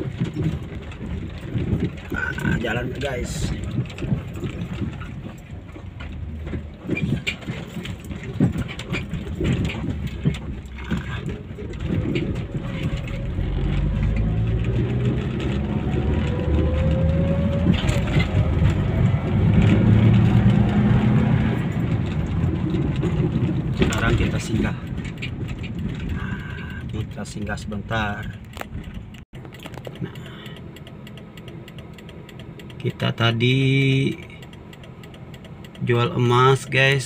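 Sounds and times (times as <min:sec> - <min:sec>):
car engine drone and whine: 0:00.0 - 0:37.0
knocks and rattles over rough road: 0:00.0 - 0:37.0.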